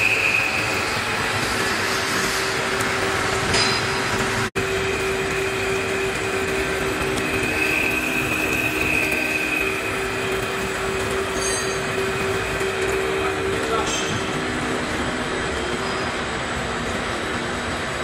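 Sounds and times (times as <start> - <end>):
high-pitched squeal: 0.0 - 16.5.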